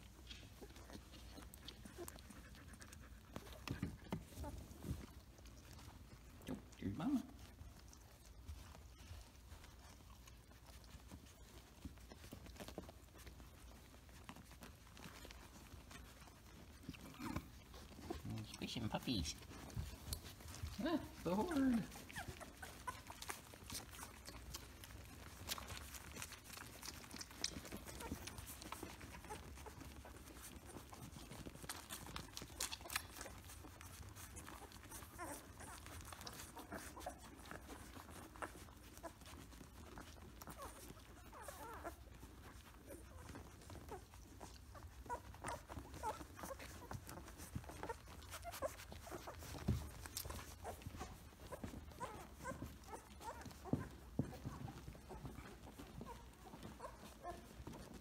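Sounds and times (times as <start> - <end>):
puppies squeaking and grunting: 0.0 - 58.0
puppies suckling: 0.0 - 58.0.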